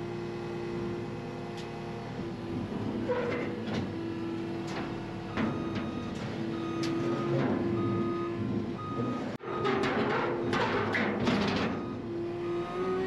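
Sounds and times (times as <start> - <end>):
skid steer engine humming: 0.0 - 13.0.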